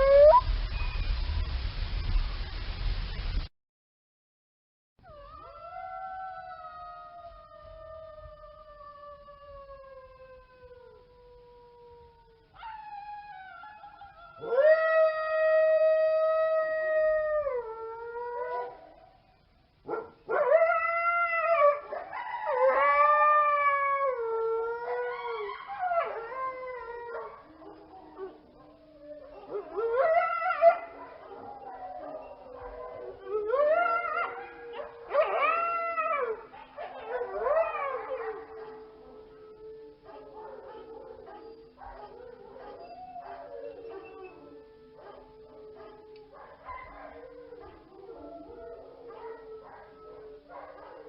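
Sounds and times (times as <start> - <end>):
dogs howling: 5.1 - 19.2, 19.9 - 51.0.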